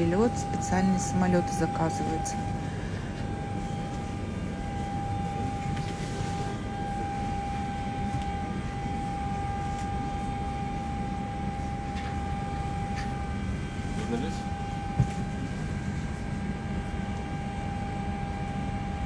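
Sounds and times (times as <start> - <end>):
constant high-pitched whine: 0.0 - 19.0
low rumble of cabin systems: 0.0 - 19.0.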